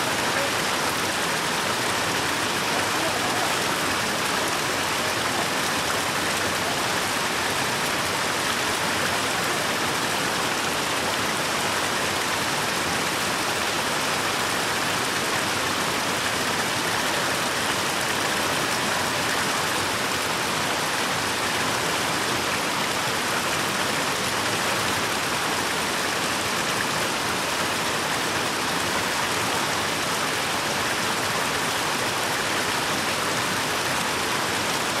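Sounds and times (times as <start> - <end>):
fountain water running: 0.0 - 35.0.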